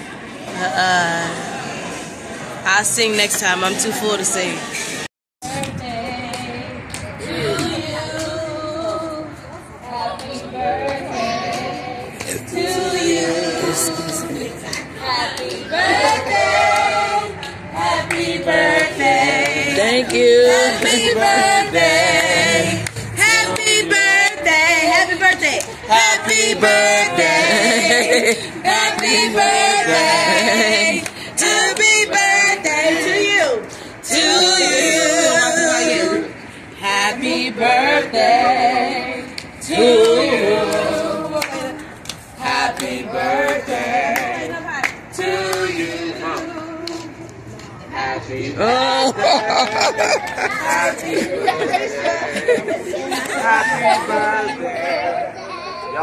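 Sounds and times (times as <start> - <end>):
voices singing: 3.9 - 56.0.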